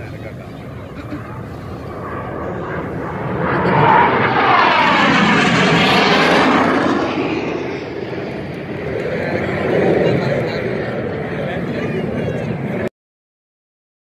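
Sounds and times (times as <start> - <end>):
jet aircraft passing over: 0.0 - 12.9.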